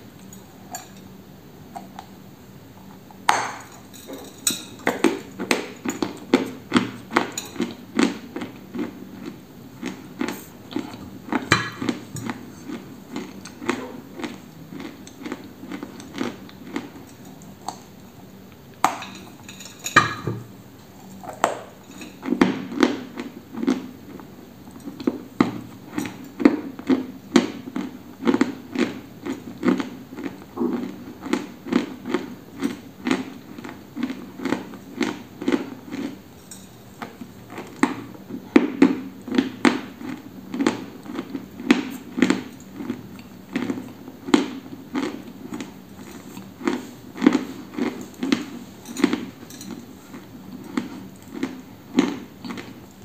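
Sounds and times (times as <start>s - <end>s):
crunchy chewing: 2.9s - 19.8s, 20.9s - 53.0s.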